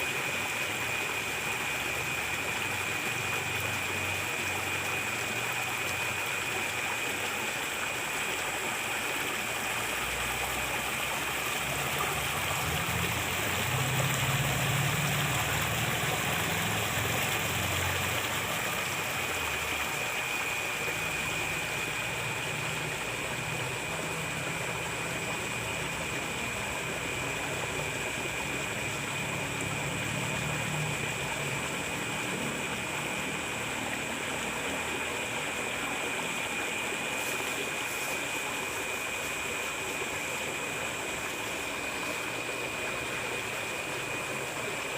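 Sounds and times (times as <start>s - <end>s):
thin high steady tone: 0.0s - 44.9s
water running in a ditch: 0.0s - 44.9s.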